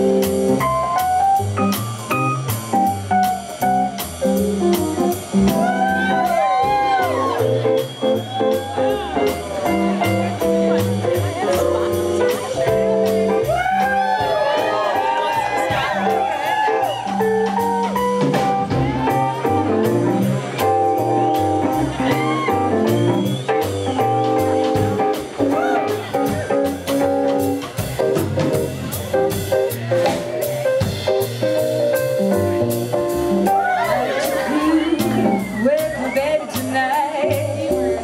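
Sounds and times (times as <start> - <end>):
jazz band playing: 0.0 - 38.0.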